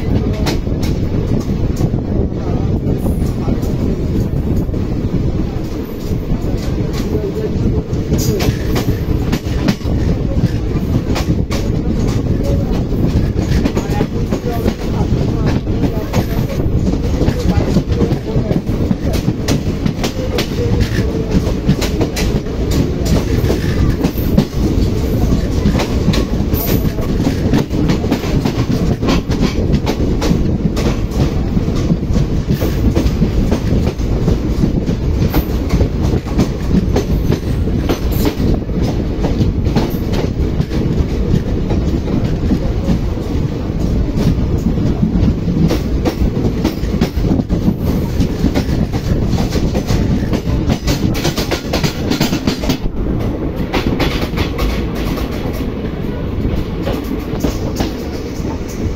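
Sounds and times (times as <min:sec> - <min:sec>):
steel wheels rumbling on rail: 0:00.0 - 0:58.9
wheels clacking over rail joints: 0:05.6 - 0:58.9.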